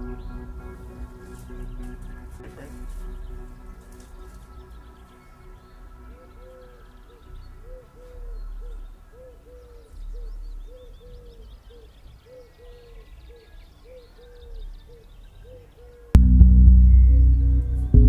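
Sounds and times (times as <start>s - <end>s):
small birds chirping: 0.0s - 16.2s.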